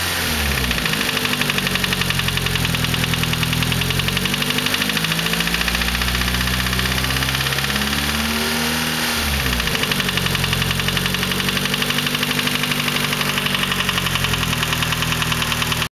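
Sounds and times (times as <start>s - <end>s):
car engine idling with knock: 0.4s - 15.9s.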